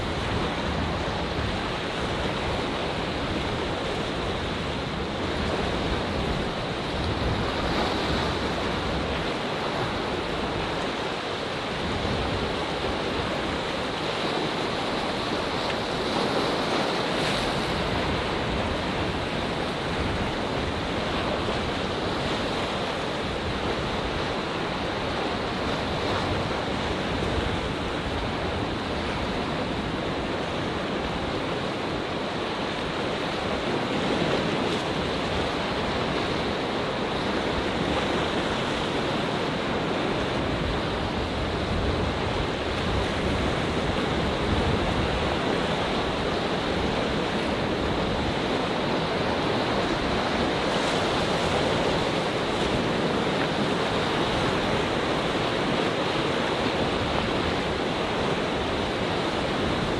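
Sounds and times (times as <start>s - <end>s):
waves breaking on rocks: 0.0s - 59.9s.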